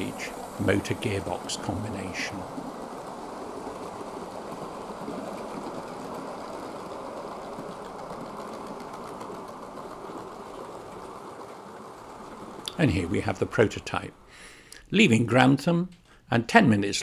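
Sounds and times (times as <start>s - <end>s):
faint rapid clicks: 0.0s - 14.0s
model train motor whirring: 0.0s - 14.2s
wheels rolling over rails: 0.0s - 14.4s.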